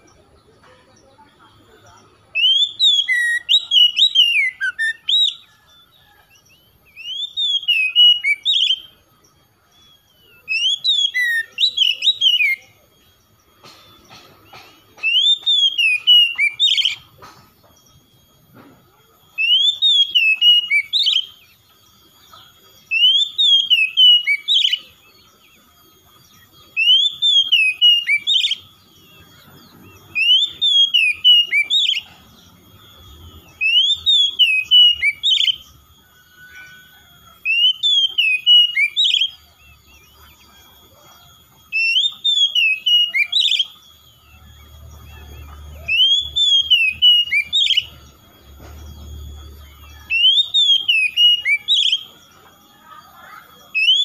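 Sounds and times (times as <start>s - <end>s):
bird singing whistled phrases: 1.9s - 17.2s, 19.2s - 54.0s.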